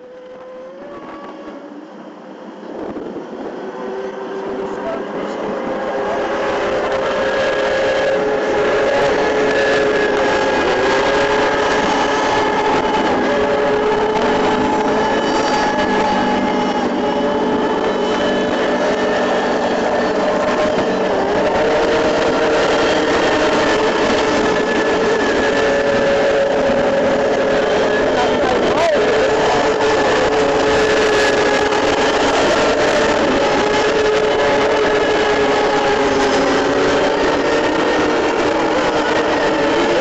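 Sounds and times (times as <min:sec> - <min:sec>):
boat engine running: 0:03.9 - 0:40.0.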